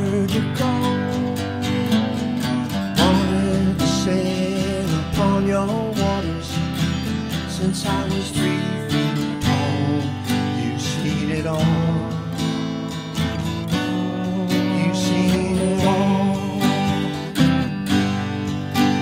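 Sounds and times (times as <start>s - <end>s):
picked guitar melody: 0.0s - 19.0s
strummed guitar chords: 0.0s - 19.0s.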